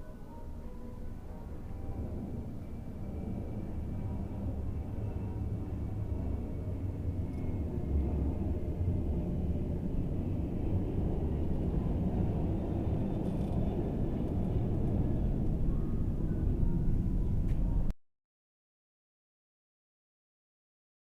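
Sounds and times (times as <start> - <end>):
faint whining tones: 0.0 - 17.9.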